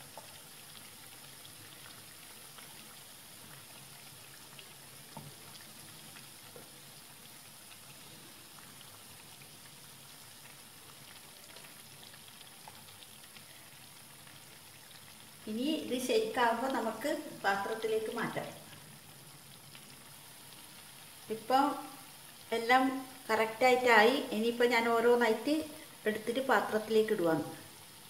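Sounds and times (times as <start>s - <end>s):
oil sizzling: 0.0s - 28.0s.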